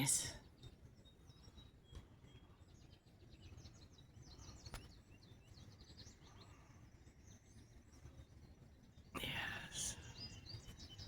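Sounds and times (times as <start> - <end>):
low outdoor background rumble: 0.0 - 11.0
small birds chirping: 0.0 - 11.0.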